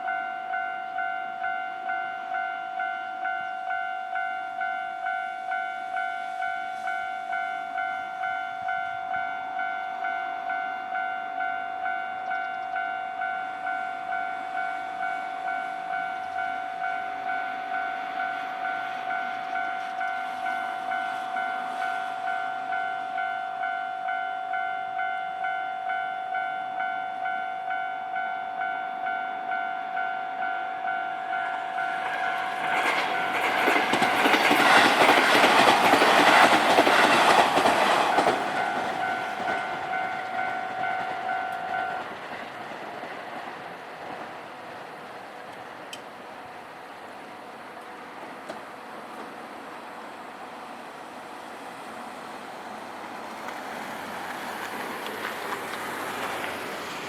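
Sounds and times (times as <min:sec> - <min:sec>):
train approaching: 0:00.0 - 0:57.0.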